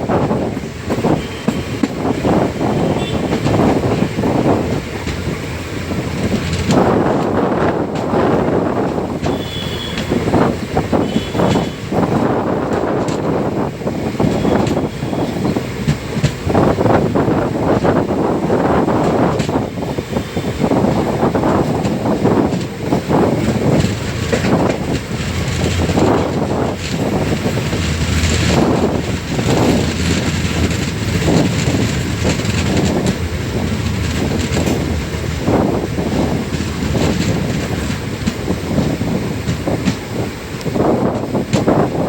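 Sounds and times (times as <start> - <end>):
train carriage rattling: 0.0 - 42.0
train wheels clattering over rails: 0.0 - 42.0.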